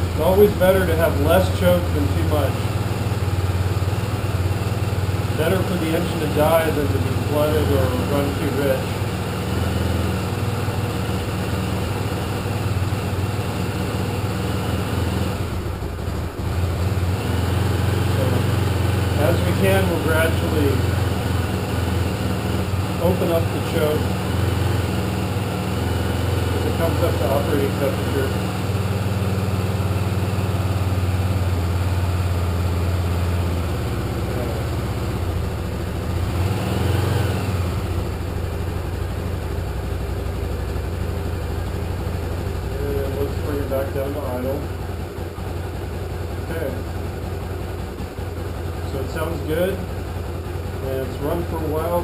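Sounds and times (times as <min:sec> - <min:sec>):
motorcycle engine running on choke: 0:00.0 - 0:52.0.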